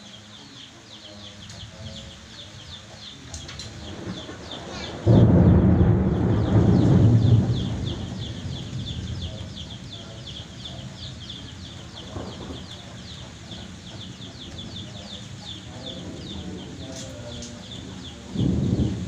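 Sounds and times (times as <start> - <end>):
faint low calls: 0.0 - 19.0
rapid high-pitched chirping: 0.0 - 19.0
thunder rumble: 3.2 - 19.0.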